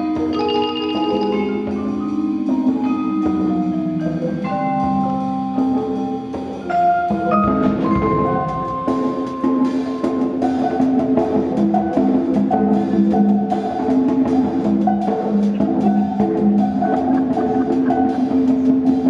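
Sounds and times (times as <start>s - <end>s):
mallet keyboard rolled notes: 0.0s - 19.0s.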